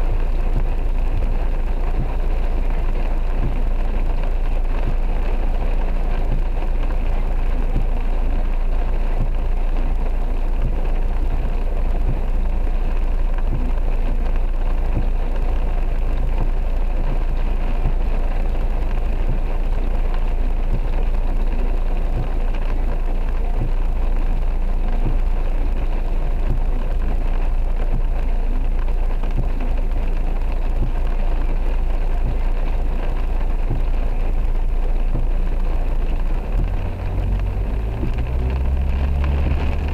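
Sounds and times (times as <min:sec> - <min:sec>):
heavy rain drumming on car roof: 0:00.0 - 0:39.9
low rumble from car: 0:00.0 - 0:39.9.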